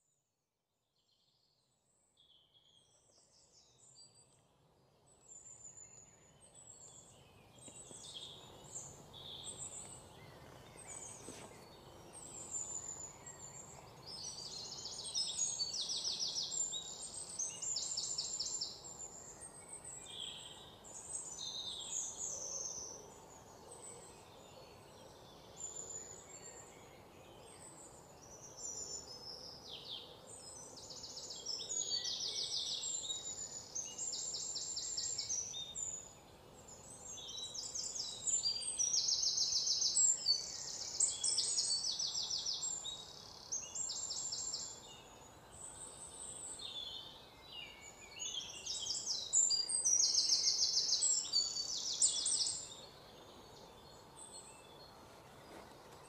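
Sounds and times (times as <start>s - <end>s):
background hiss: 3.3s - 56.0s
birds chirping and trilling: 5.0s - 56.0s.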